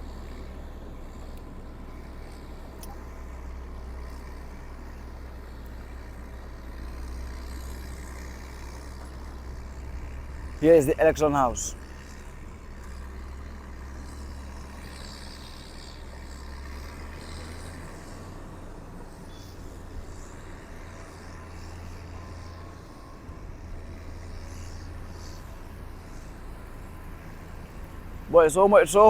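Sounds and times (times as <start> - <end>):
vehicle rumbling along road: 0.0 - 29.0.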